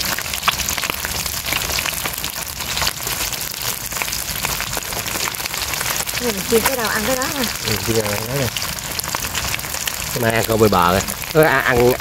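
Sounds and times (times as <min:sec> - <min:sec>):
fish deep-frying in hot oil: 0:00.0 - 0:12.0.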